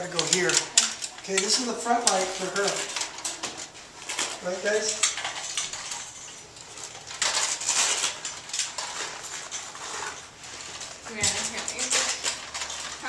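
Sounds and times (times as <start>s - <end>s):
metal lighting stands clinking: 0.0s - 13.0s.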